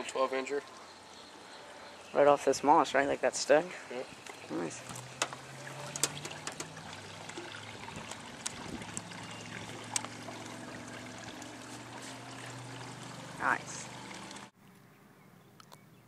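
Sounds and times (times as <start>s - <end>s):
water trickling and lapping: 0.0s - 14.6s.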